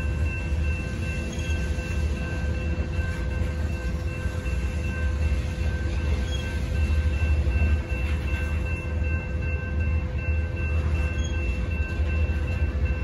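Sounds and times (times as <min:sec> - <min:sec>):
crossing signal bell ringing: 0:00.0 - 0:13.0
freight train rumbling on rails: 0:00.0 - 0:13.0.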